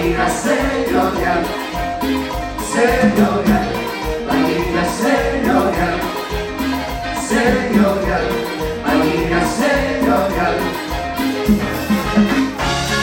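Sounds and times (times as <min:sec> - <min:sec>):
salsa dance orchestra playing: 0:00.0 - 0:13.0.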